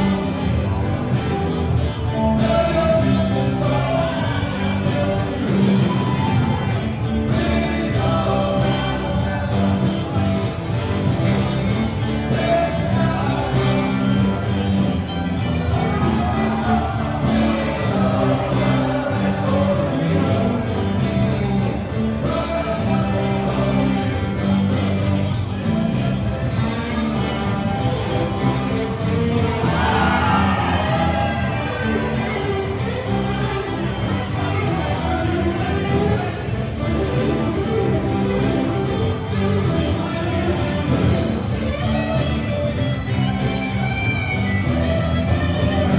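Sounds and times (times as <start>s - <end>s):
person singing: 0.0s - 42.9s
live band playing: 0.0s - 45.9s.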